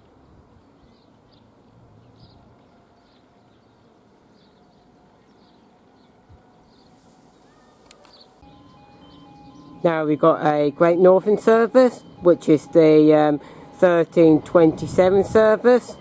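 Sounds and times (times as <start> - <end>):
bird chirping: 0.6 - 16.0.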